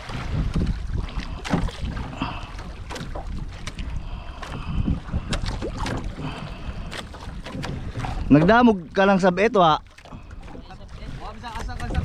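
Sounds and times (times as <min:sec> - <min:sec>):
water noise: 0:00.0 - 0:12.0
wind on the microphone: 0:00.0 - 0:12.0.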